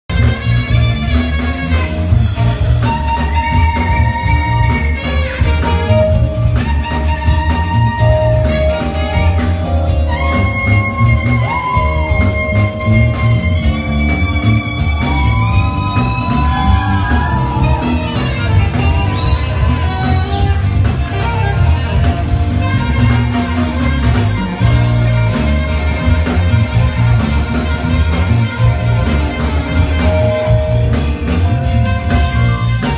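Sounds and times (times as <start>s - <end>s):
sliding melody over pulsing bass: 0.1s - 32.9s.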